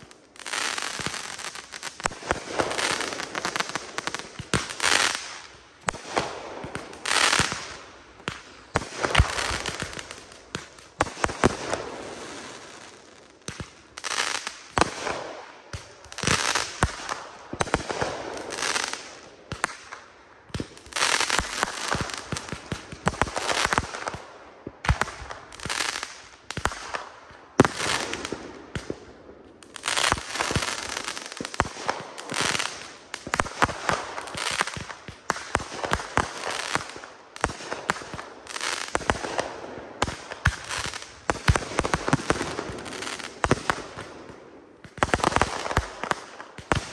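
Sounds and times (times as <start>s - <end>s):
fireworks launching and bursting: 0.0s - 46.9s.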